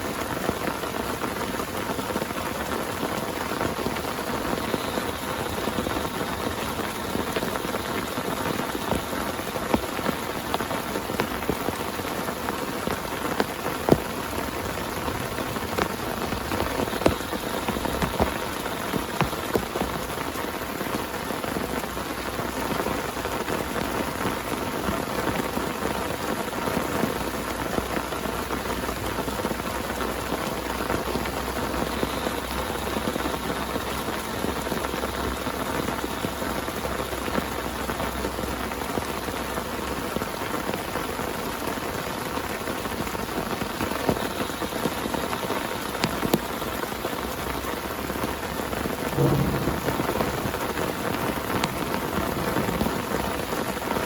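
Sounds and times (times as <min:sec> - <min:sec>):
heavy rain falling: 0:00.0 - 0:54.0
sharp raindrops striking close: 0:00.0 - 0:54.0.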